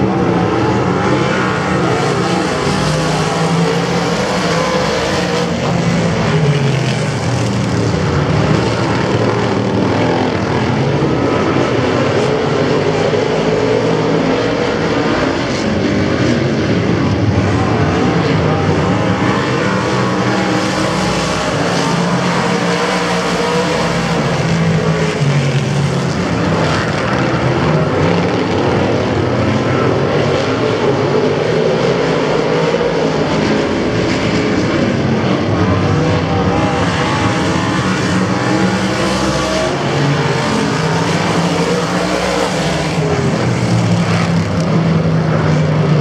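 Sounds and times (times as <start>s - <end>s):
racing car engines revving: 0.0s - 46.0s.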